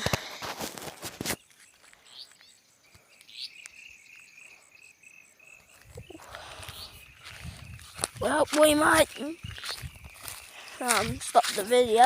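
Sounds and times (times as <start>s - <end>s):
crickets chirping: 0.4s - 12.0s.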